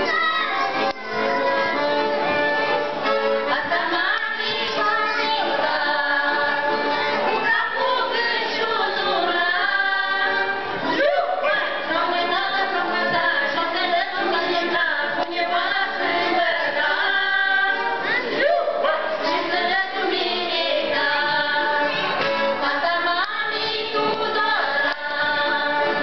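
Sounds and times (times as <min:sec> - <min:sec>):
women's choir singing folk song: 0:00.0 - 0:26.0.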